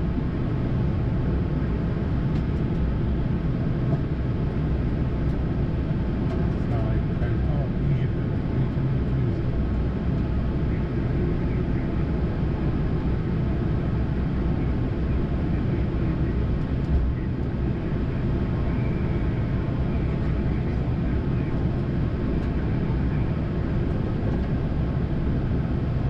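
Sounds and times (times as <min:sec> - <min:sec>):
low rushing cockpit hum: 0:00.0 - 0:26.0.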